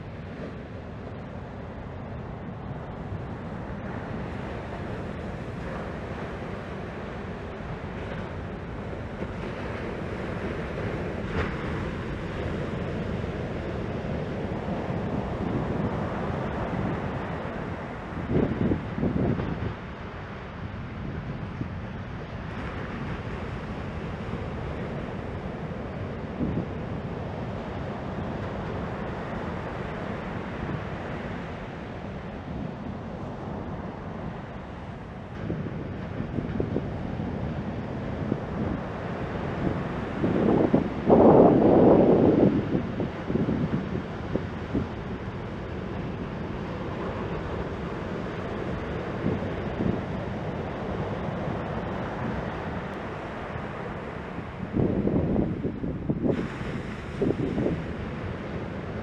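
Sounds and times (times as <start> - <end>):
ocean waves breaking on beach: 0.0 - 59.0
wind rumble on microphone: 0.0 - 59.0.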